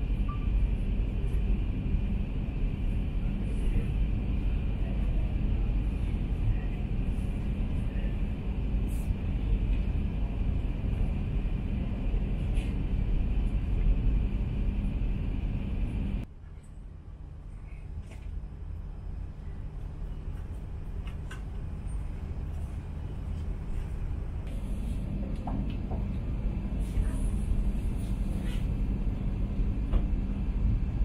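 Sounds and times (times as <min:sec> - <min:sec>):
train rumble and hiss inside carriage: 0:00.0 - 0:31.0.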